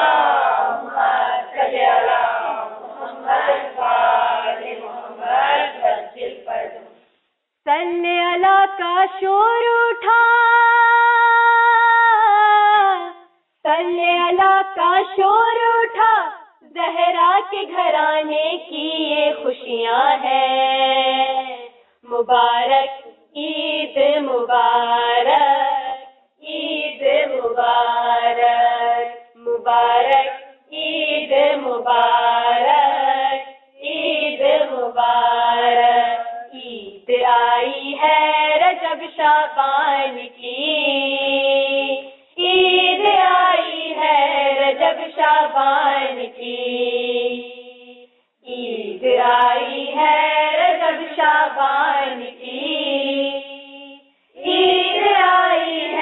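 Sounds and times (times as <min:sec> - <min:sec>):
girls singing unaccompanied: 0:00.0 - 0:56.0.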